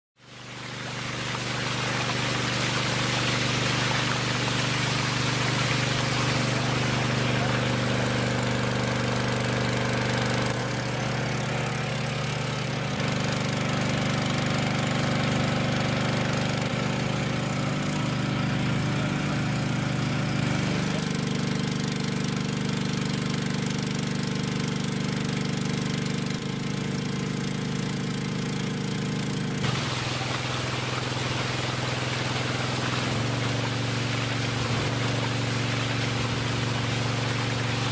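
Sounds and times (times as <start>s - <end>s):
water pump engine running: 0.2s - 37.9s.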